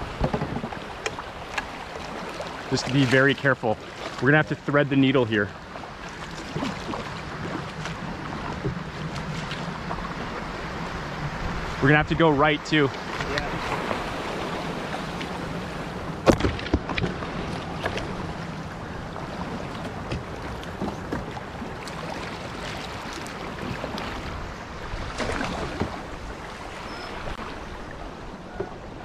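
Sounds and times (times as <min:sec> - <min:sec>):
floodwater rushing: 0:00.0 - 0:29.0
paddle strokes: 0:00.0 - 0:29.0.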